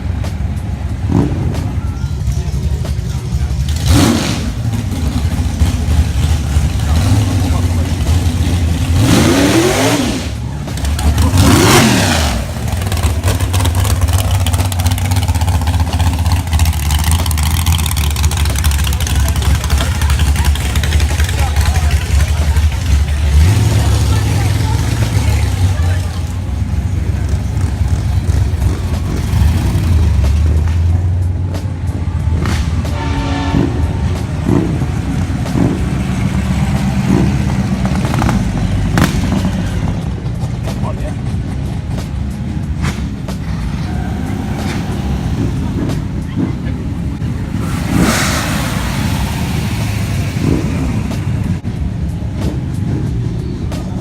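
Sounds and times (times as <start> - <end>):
car engine revving and idling: 0.0 - 54.0.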